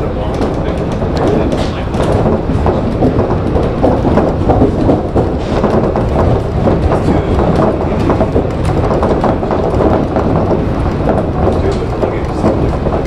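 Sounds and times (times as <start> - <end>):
monorail car rumbling: 0.0 - 13.0
small clicks and rattles: 0.2 - 13.0.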